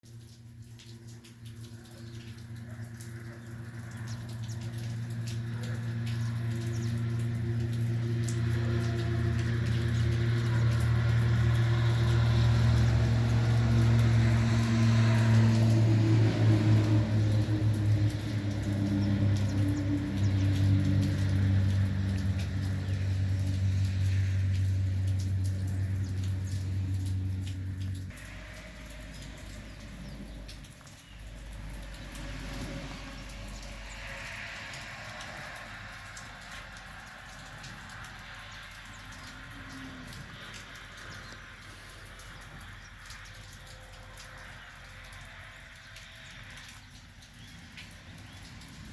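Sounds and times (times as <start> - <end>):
rain hiss: 0.1 - 48.9.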